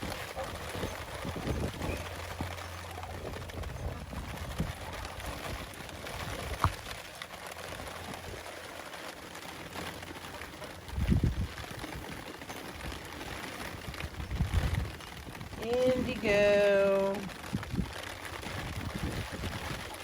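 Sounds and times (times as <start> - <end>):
rain hiss: 0.0 - 20.0.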